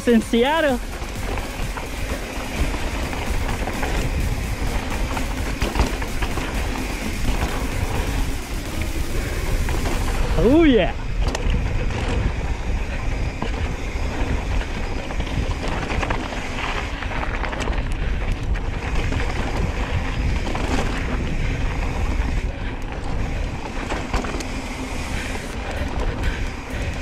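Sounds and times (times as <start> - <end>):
bike rattles and clicks: 0.0 - 27.0
tyres rumbling on dirt trail: 0.0 - 27.0
wind buffeting microphone: 0.0 - 27.0.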